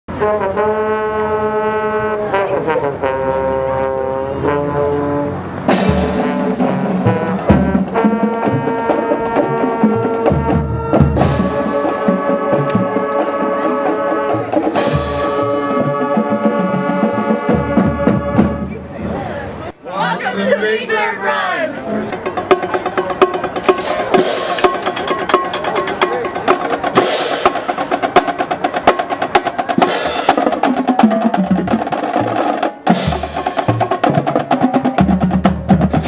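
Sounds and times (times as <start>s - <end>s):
brassy instrumental chords: 0.1s - 19.0s, 19.6s - 36.0s.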